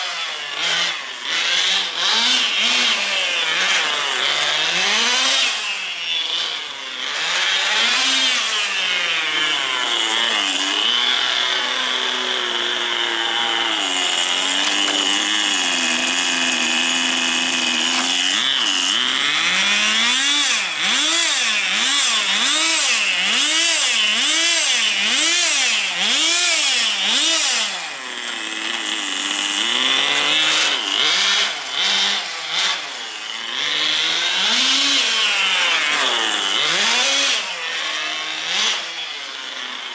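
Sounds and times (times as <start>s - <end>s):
rc car nitro engine revving: 0.0s - 39.9s.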